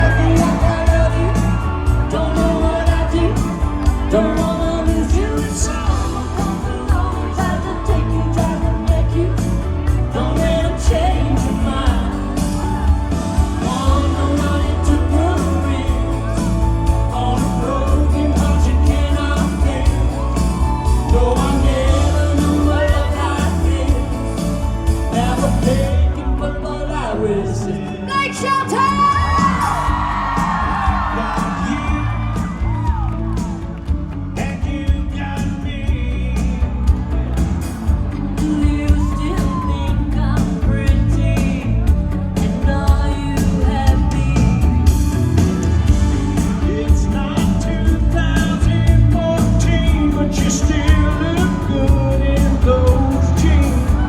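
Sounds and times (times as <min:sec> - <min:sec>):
live pop-country band playing: 0:00.0 - 0:54.0
person singing: 0:00.0 - 0:54.0.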